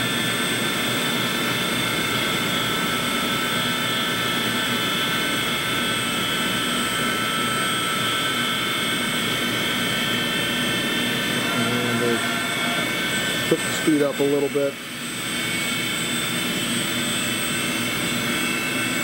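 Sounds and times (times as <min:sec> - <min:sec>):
grinding machine mechanical whine: 0:00.0 - 0:19.0.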